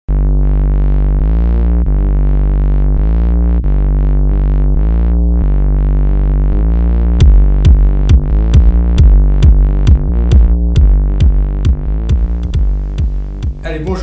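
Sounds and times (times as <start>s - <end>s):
synthesizer chords gliding: 0.1s - 14.0s.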